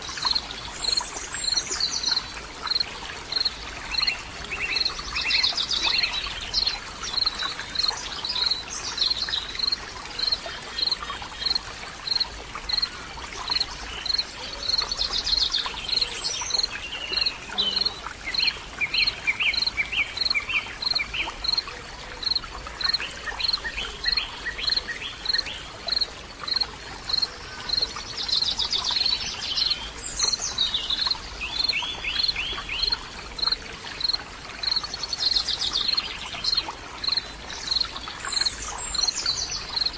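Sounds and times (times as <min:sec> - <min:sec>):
steady water-like hiss: 0:00.0 - 0:39.9.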